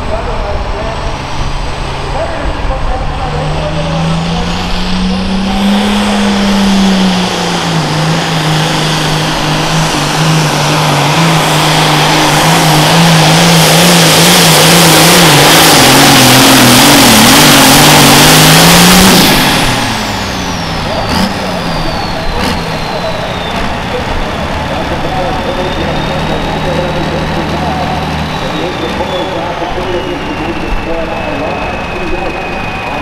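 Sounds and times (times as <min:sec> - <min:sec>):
tractor engine at full throttle: 0:00.0 - 0:33.0.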